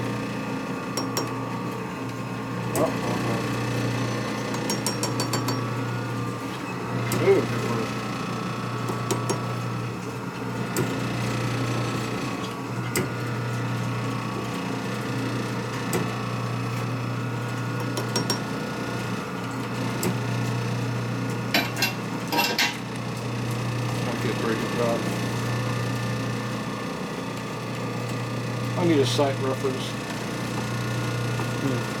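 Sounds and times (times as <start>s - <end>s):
motor humming: 0.0s - 32.0s.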